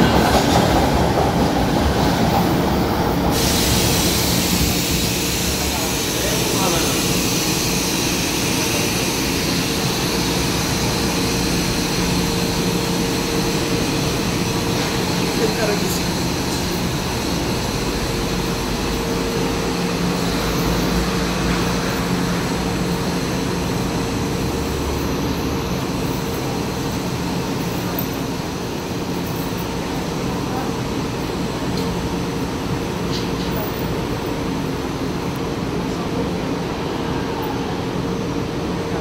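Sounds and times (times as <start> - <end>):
train equipment humming: 0.0 - 39.0.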